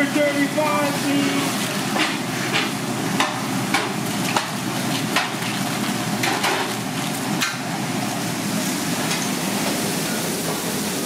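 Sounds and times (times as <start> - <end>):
kitchen background noise: 0.0 - 11.0.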